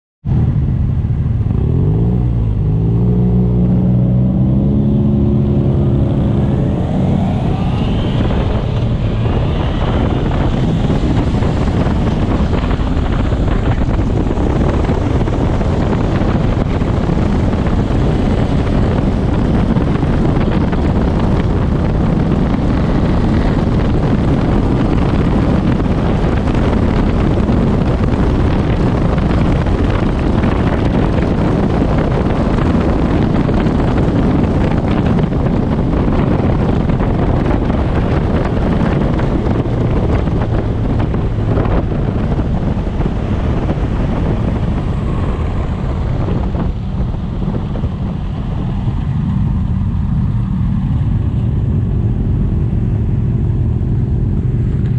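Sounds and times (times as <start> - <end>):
motorcycle engine accelerating: 0.2 - 54.9
wind noise on helmet: 0.2 - 54.9.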